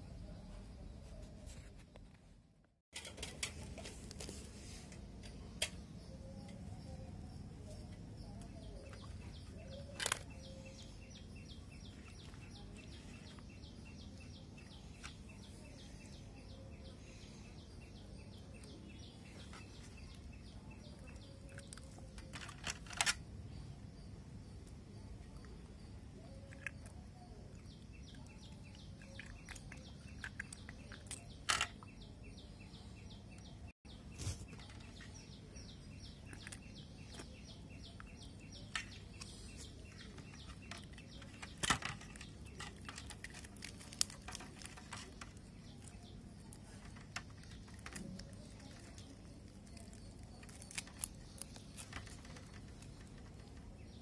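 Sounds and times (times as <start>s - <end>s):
faint bird chirping: 3.0s - 54.0s.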